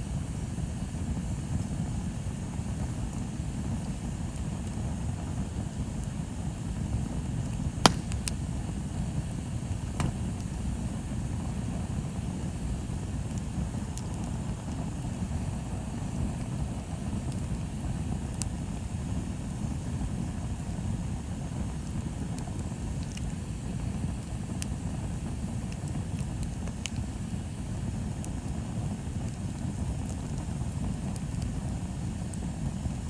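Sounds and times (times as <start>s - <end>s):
bonfire burning with pops: 0.0s - 33.0s.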